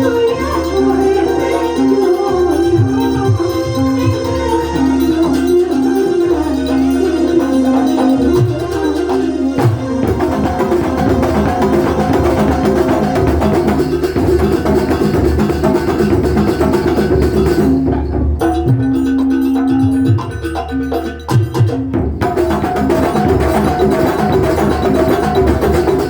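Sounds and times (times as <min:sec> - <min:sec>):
held melodic notes: 0:00.0 - 0:21.0
drums and percussion playing: 0:00.0 - 0:26.0.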